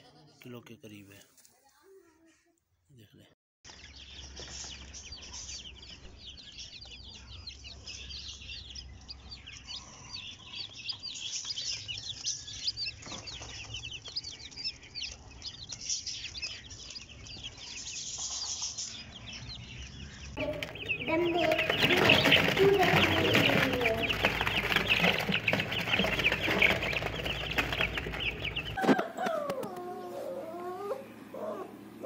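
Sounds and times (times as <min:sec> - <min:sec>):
chicks peeping: 0:03.7 - 0:32.0.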